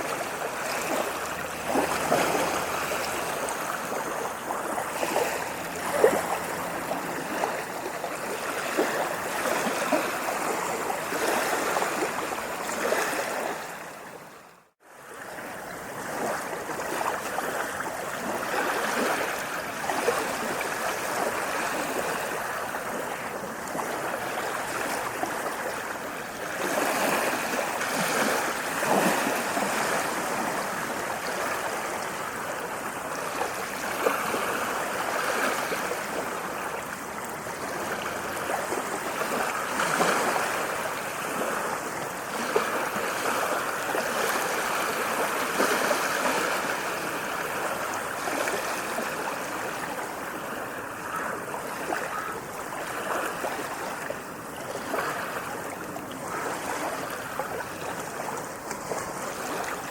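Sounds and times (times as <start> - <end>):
small water splashes: 0.0 - 14.3, 14.9 - 59.9
small waves lapping: 0.0 - 59.9.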